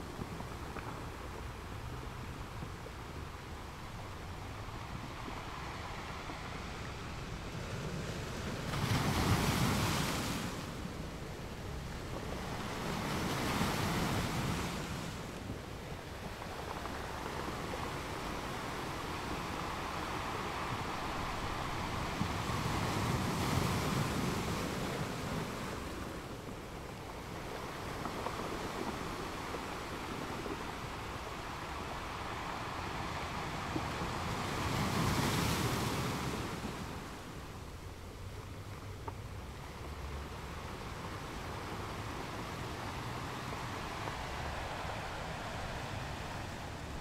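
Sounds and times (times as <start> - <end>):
sea surf: 0.0 - 47.0
wind: 0.0 - 47.0.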